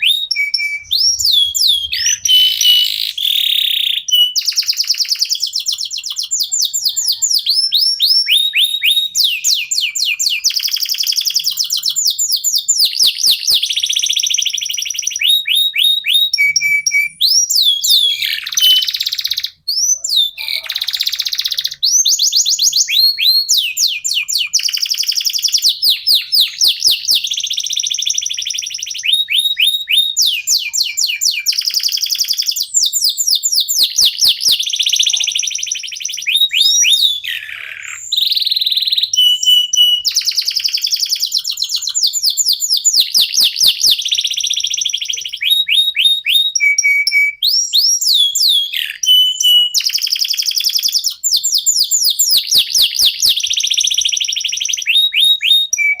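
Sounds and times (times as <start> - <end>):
canaries singing trills: 0.0 - 56.0.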